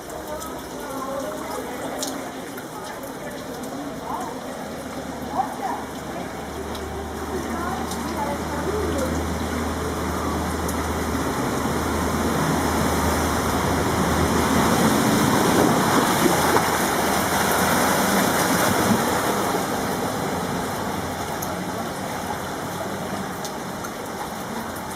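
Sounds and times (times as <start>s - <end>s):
rain: 0.0s - 24.9s
running water rushing: 0.0s - 24.9s.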